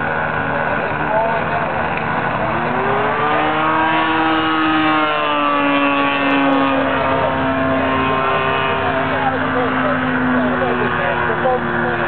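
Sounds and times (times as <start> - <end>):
model plane engine in flight: 0.0 - 12.0.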